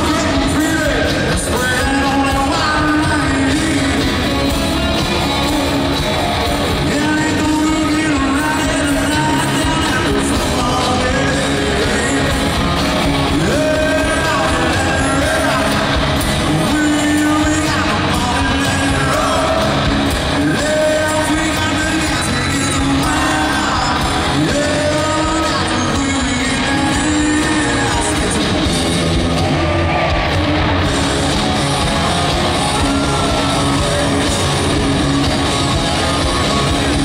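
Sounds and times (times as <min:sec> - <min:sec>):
man singing with live rock band: 0:00.0 - 0:37.0.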